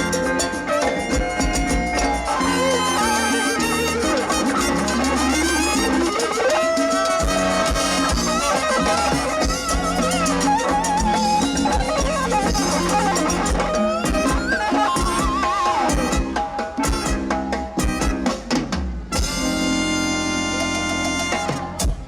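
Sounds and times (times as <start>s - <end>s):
vibrato melody line: 0.0s - 18.5s, 19.1s - 22.0s
bass line: 0.0s - 22.0s
steady drum beats: 0.0s - 22.0s.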